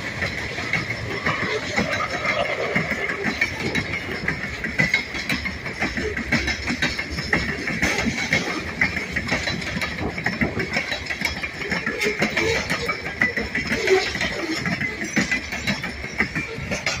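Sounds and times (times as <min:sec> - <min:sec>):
freight train wheels clanking: 0:00.0 - 0:17.0
train cars rattling: 0:00.0 - 0:17.0.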